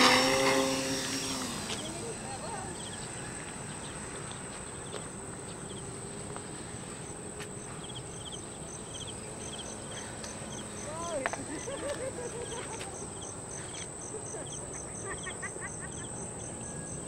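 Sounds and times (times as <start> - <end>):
insects chirping: 0.0 - 17.0
outdoor background noise: 0.0 - 17.0
steady high buzz: 0.0 - 17.0.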